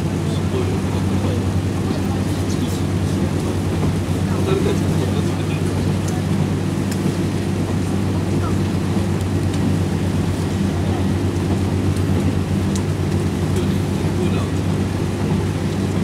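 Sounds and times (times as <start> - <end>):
diesel engine droning: 0.0 - 16.0
moving train rumble: 0.0 - 16.0.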